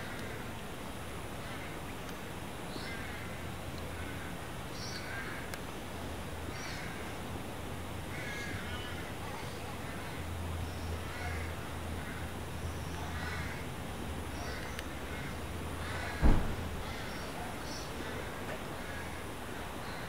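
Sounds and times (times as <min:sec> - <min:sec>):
outdoor background hiss: 0:00.0 - 0:20.0
birds calling: 0:02.7 - 0:07.2, 0:08.0 - 0:20.0.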